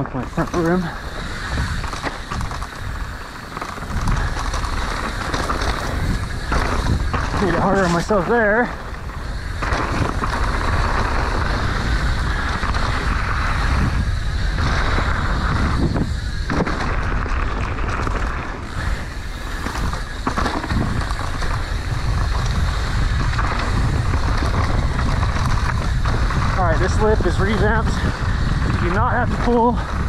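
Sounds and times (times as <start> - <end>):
bike tyre and frame noise: 0.0 - 30.0
wind buffeting microphone: 0.0 - 30.0
bike knocking over bumps: 0.5 - 27.0.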